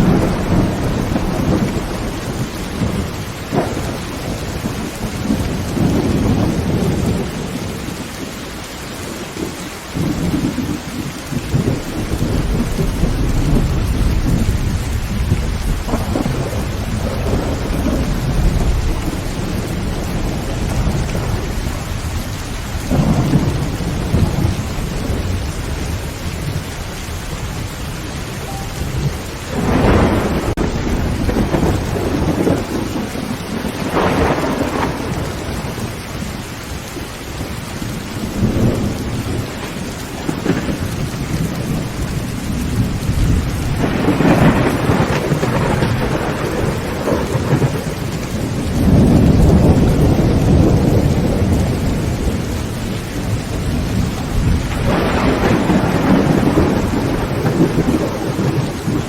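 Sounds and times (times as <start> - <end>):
thunder rolling: 0.0 - 8.3, 9.0 - 59.0
heavy rain on a tin roof: 0.0 - 59.0.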